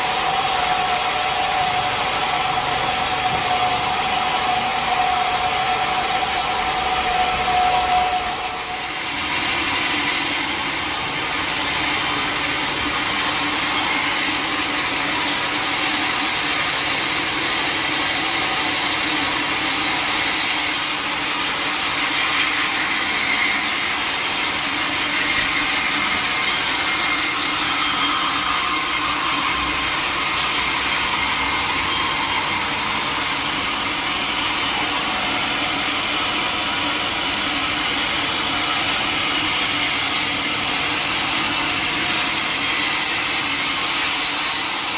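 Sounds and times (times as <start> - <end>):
sawmill blade cutting log: 0.0 - 44.9.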